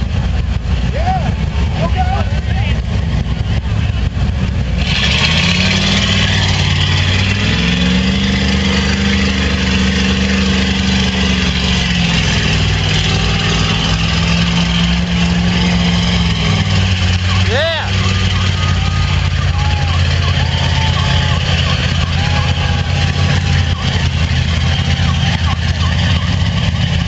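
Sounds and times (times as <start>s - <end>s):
bus engine revving hard: 0.0s - 27.0s
tyres churning through mud: 0.0s - 27.0s.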